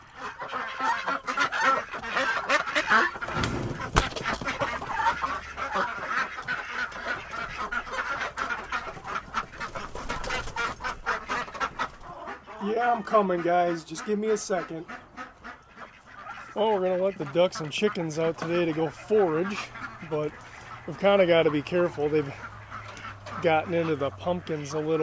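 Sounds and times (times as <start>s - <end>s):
chickens clucking: 0.0s - 25.0s
ducks quacking: 0.0s - 25.0s.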